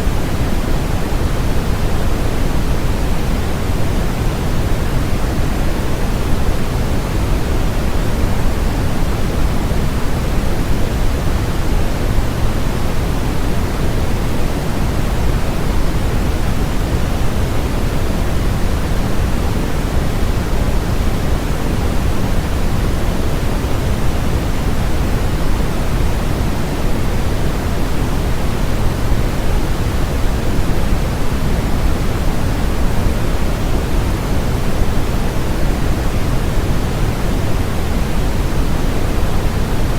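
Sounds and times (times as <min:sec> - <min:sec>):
steady synthetic noise hiss: 0:00.0 - 0:39.9.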